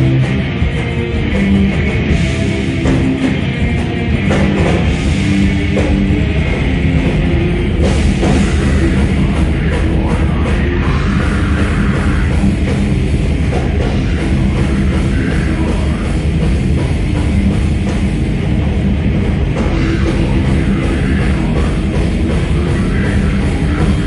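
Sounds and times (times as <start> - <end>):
heavy metal band playing live: 0.0 - 24.0.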